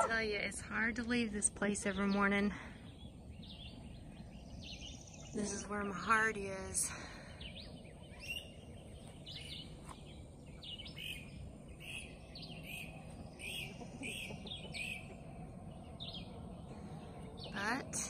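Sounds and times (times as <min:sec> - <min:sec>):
birds chirping: 0:00.0 - 0:18.0
faint low outdoor background noise: 0:00.0 - 0:18.0.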